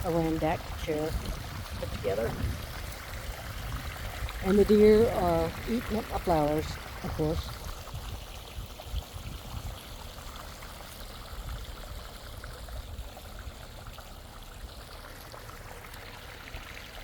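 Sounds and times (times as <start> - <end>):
waterfall pouring and trickling: 0.0 - 17.0.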